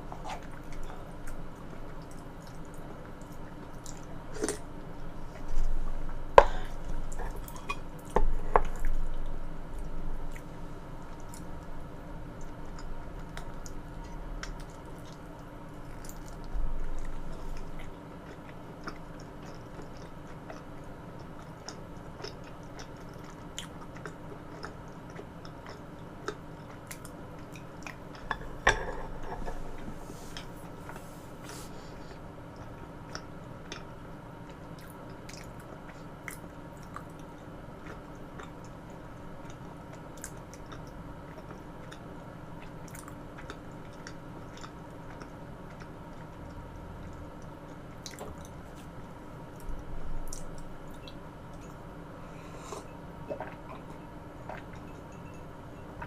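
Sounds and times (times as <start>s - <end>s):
chewing soft food: 0.0s - 56.0s.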